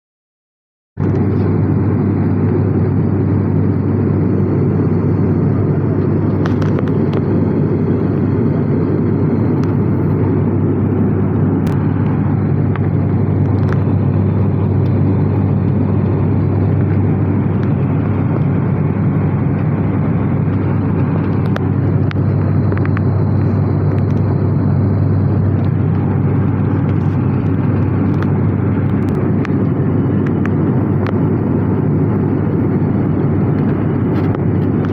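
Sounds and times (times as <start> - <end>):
turboprop engines droning: 1.0 - 34.9.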